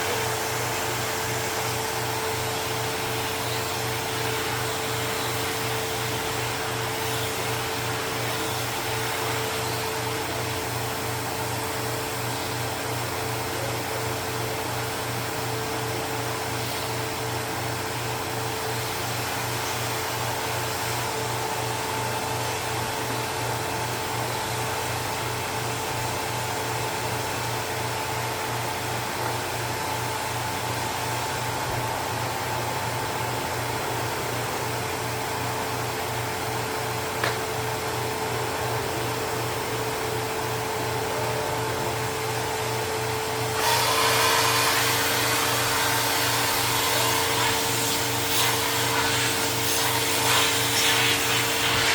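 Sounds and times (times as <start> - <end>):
upright vacuum running: 0.0 - 51.9.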